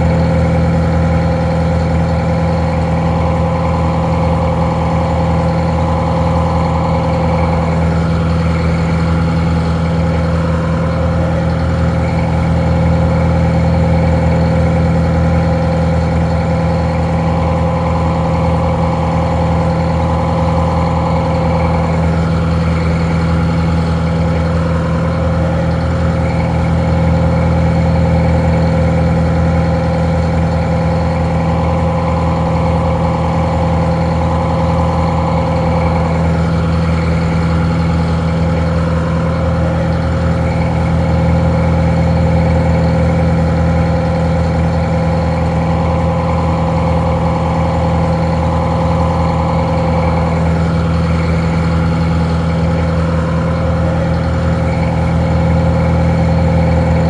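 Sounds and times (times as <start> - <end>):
diesel engine idling: 0.0 - 57.0
steady whine: 0.0 - 57.0.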